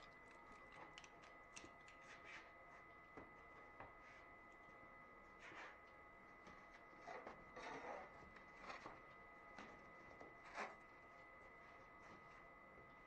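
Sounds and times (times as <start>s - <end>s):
faint steady high whine: 0.0s - 13.0s.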